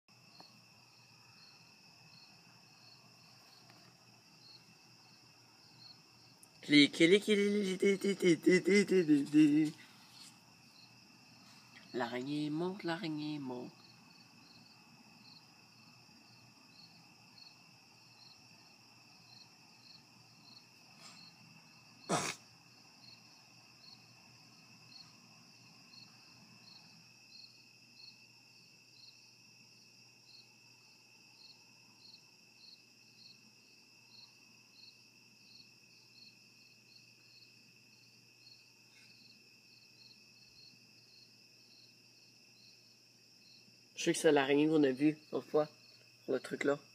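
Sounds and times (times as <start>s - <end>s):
cricket chirping: 0.1s - 46.9s.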